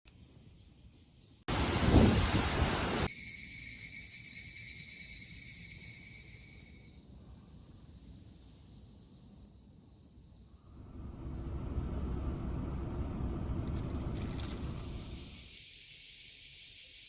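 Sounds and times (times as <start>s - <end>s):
insects droning: 0.1s - 12.4s, 13.7s - 17.0s.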